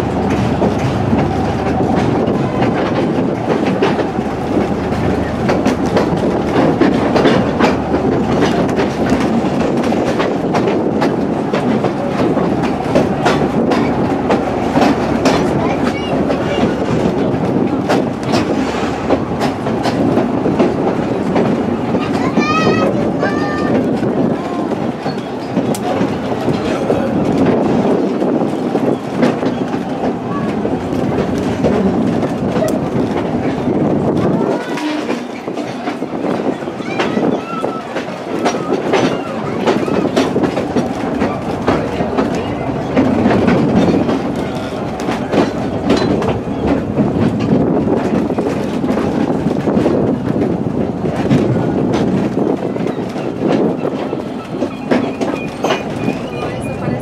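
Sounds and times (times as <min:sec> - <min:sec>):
clacks over rail joints: 0:00.0 - 0:57.0
railcar wheels rumbling on rail: 0:00.0 - 0:57.0.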